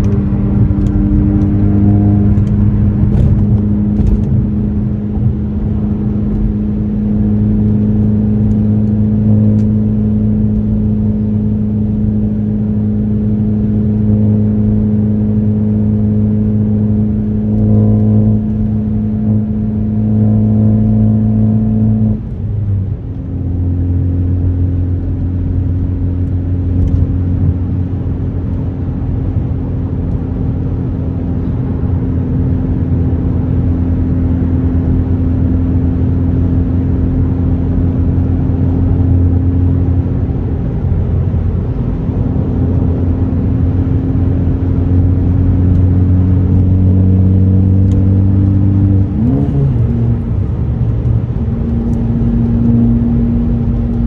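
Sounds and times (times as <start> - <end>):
car engine exhaust note: 0.0 - 54.0.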